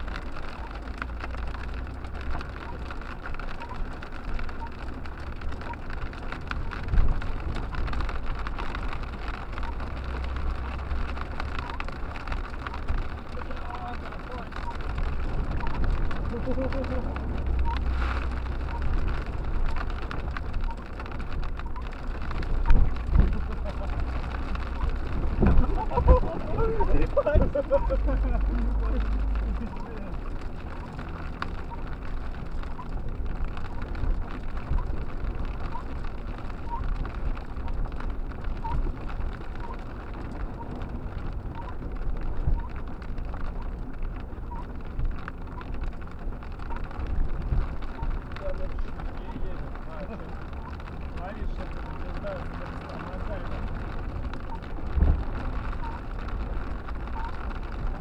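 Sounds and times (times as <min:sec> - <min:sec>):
car driving through slush: 0:00.0 - 0:58.0
engine and road rumble: 0:00.0 - 0:58.0
hail and rain drumming on car: 0:00.0 - 0:58.0
water splashing on windshield: 0:00.0 - 0:58.0.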